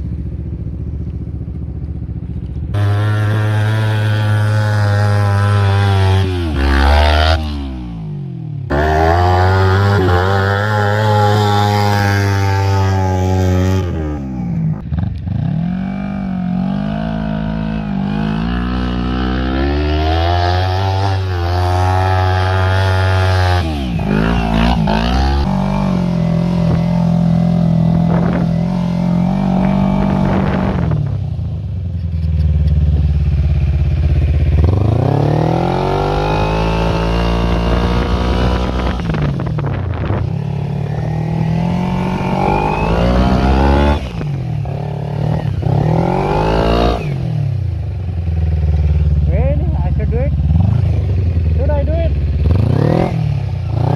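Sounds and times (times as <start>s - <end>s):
go-kart engine revving: 2.7s - 8.1s, 8.7s - 31.4s, 32.2s - 53.9s.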